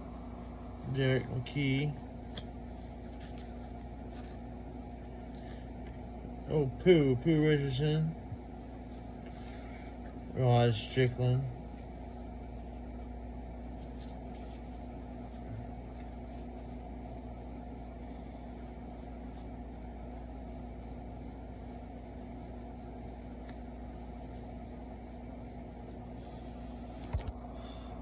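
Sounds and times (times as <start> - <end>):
low fan hum: 0.0 - 28.0.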